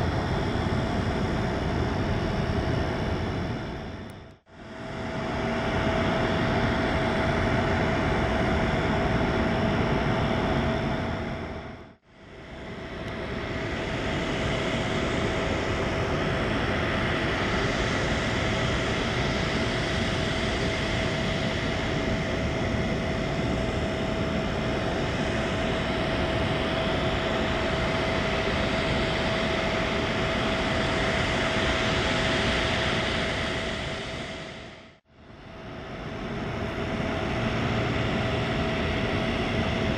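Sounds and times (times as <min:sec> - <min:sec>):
aircraft auxiliary power unit whine: 0:00.0 - 0:39.9.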